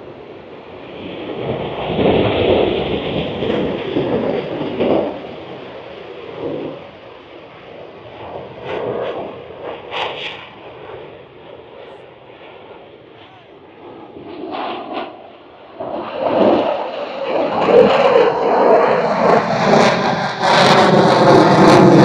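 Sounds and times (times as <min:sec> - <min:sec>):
airplane engine noise: 0:00.0 - 0:22.0.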